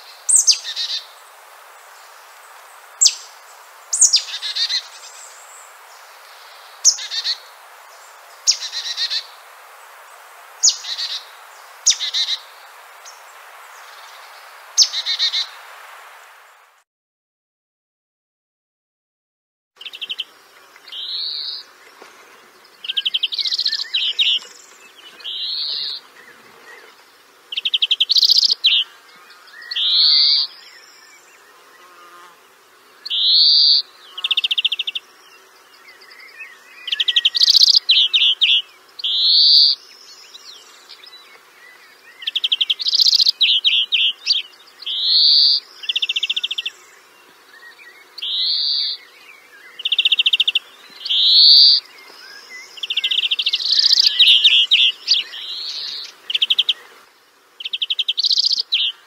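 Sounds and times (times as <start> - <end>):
songbird singing: 0.0 - 15.6, 19.8 - 59.0.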